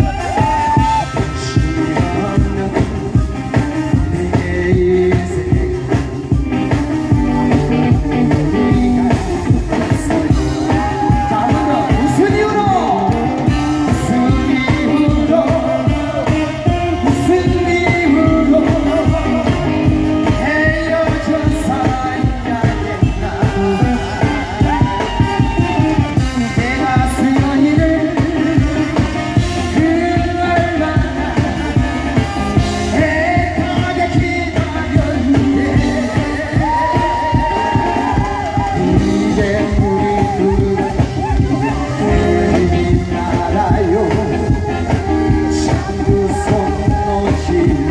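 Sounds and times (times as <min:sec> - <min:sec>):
amplified instrumental accompaniment: 0:00.0 - 0:47.9
man singing into a microphone: 0:00.0 - 0:47.9.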